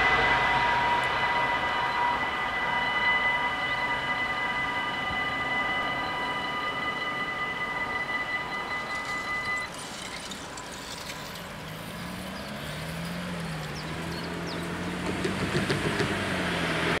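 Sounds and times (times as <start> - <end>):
car engine approaching: 0.0 - 17.0
level-crossing warning bells: 0.0 - 17.0.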